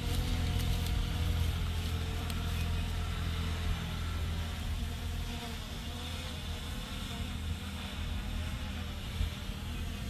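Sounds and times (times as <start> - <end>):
drone propeller buzz: 0.0 - 10.0.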